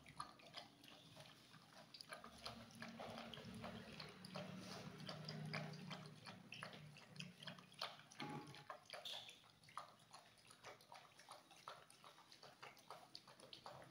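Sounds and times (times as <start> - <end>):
dog lapping from a metal bowl: 0.0 - 13.9.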